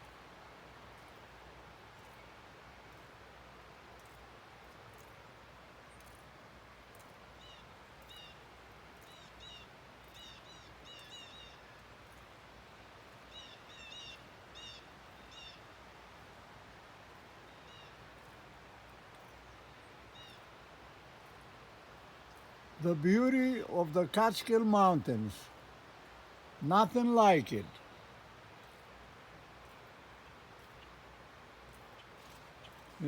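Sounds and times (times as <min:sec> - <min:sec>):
faint outdoor air hiss: 0:00.0 - 0:33.0.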